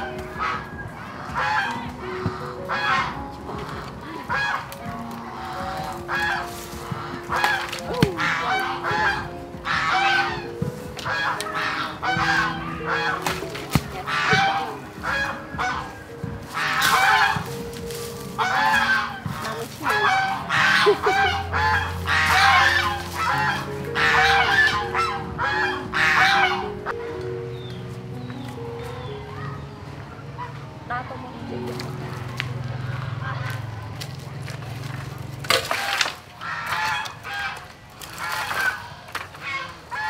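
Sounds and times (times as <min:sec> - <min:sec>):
geese honking: 0:00.0 - 0:27.8, 0:35.5 - 0:40.0
soft background music: 0:00.0 - 0:40.0.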